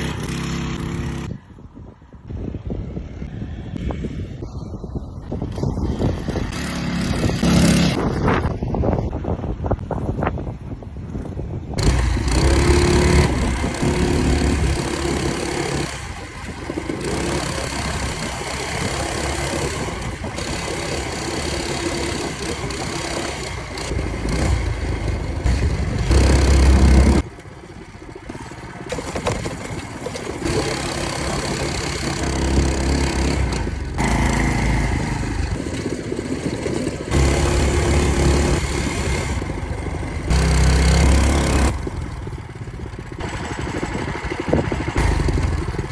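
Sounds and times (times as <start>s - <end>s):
small engine running and revving: 0.0s - 1.4s, 3.6s - 8.6s, 11.8s - 45.9s.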